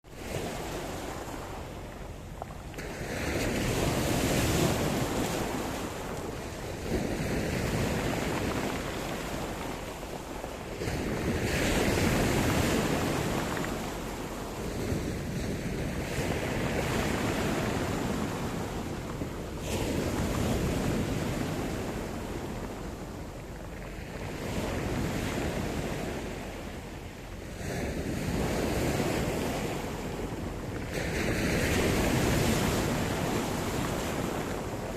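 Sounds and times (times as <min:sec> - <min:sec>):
waves breaking: 0:00.0 - 0:34.9.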